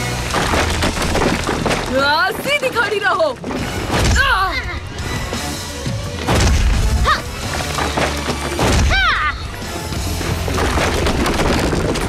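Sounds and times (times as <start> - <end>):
action music: 0.0 - 11.5.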